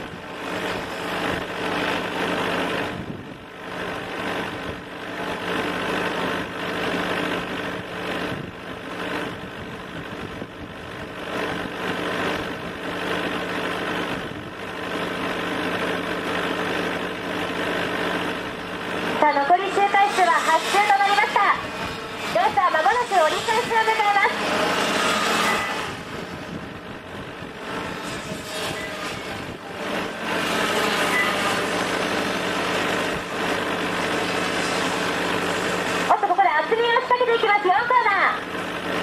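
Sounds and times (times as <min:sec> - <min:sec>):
kart engines buzzing: 0:00.0 - 0:39.0.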